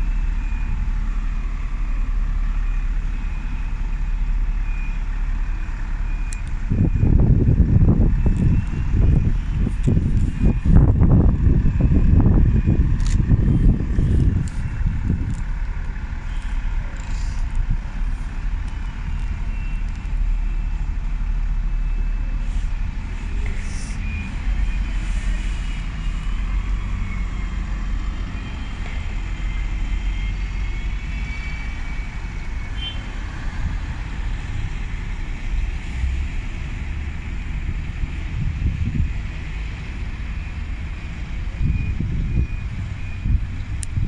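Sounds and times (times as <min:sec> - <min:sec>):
bus engine rumble: 0:00.0 - 0:44.0.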